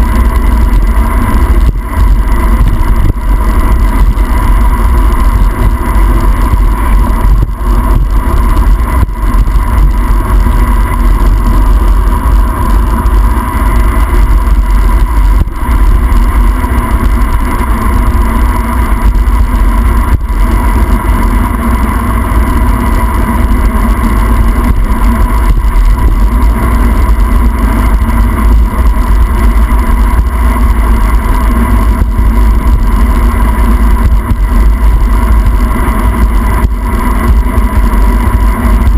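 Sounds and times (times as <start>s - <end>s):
steady hum: 0.0s - 38.9s
wind buffeting microphone: 0.0s - 38.9s.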